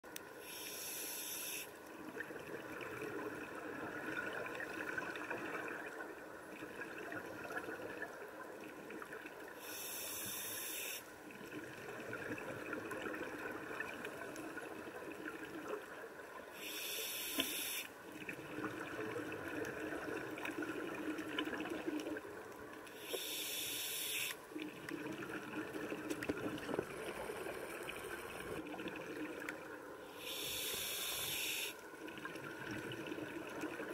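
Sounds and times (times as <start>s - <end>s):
soft hiss and bubbling: 0.1s - 33.9s.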